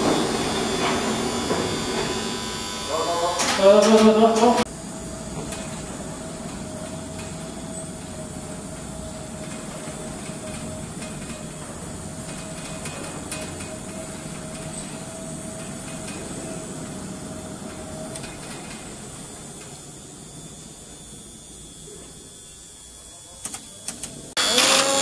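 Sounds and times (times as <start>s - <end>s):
electric hoist whining: 0.0s - 25.0s.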